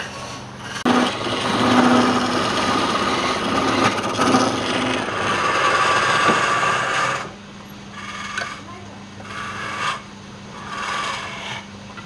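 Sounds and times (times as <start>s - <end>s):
turning tool scraping wood: 0.0s - 11.7s
wood lathe whirring: 0.6s - 8.6s, 9.2s - 11.6s.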